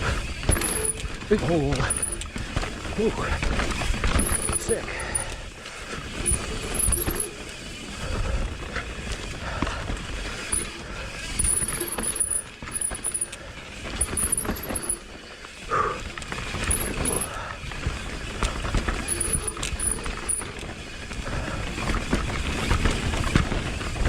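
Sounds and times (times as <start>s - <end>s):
bike knocking and rattling: 0.0s - 24.0s
bike tyres rolling on dirt: 0.0s - 24.0s.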